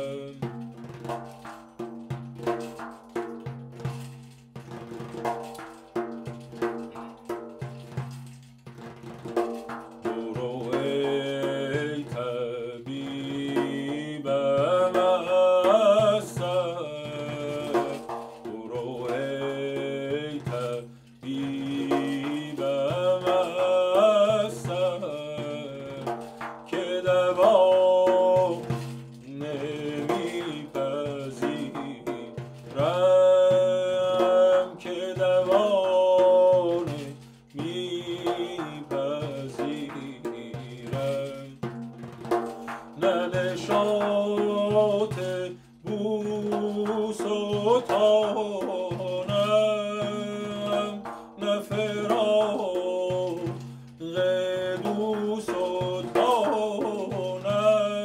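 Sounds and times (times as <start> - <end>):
man singing: 0.0 - 2.7, 9.5 - 58.0
frame drum struck with fingers: 0.0 - 12.3, 14.6 - 54.1.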